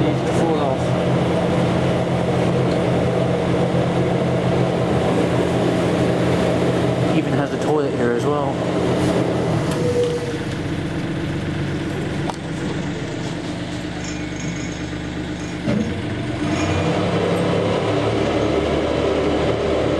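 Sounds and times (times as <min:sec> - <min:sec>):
boat engine humming: 0:00.0 - 0:19.9.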